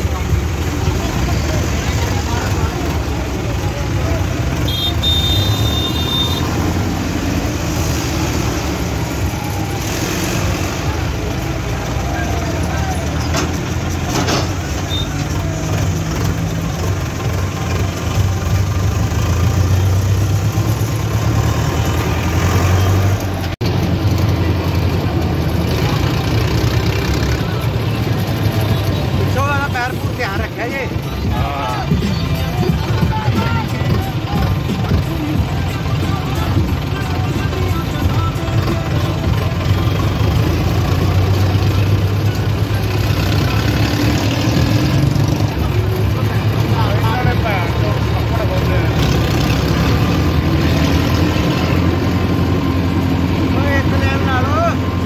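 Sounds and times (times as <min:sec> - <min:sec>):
diesel tractor engine running: 0:00.0 - 0:55.0
road noise: 0:00.0 - 0:55.0.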